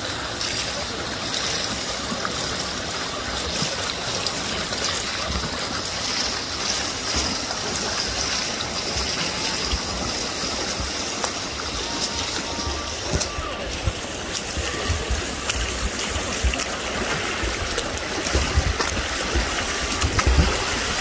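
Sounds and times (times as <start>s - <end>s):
pool water splashing: 0.0s - 21.0s.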